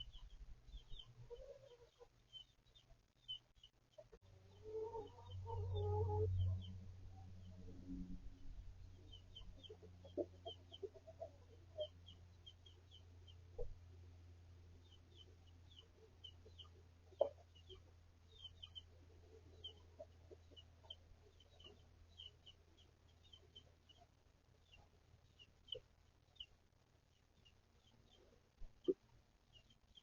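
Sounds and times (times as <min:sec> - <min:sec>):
chicken clucking: 0:00.0 - 0:06.8, 0:08.8 - 0:13.8, 0:14.8 - 0:26.5, 0:27.4 - 0:30.0
chicks peeping: 0:00.0 - 0:07.5, 0:08.8 - 0:13.9, 0:14.7 - 0:30.0.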